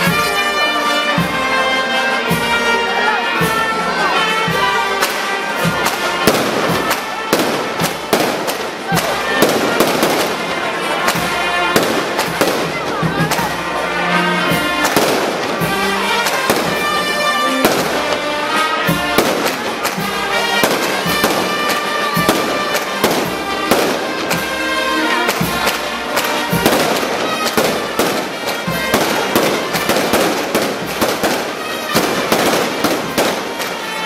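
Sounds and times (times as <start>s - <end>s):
music with long held notes: 0.0s - 34.0s
firecrackers cracking and banging: 4.2s - 34.0s.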